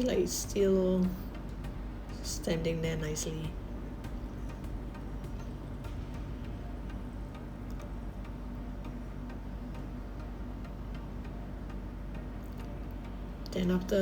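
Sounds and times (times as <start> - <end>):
faint clock-like ticking: 0.0 - 14.0
low even hum: 0.0 - 14.0.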